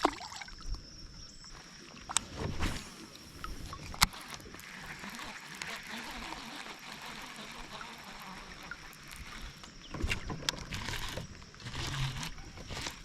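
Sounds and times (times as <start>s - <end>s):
water hiss against kayak: 1.5s - 13.0s.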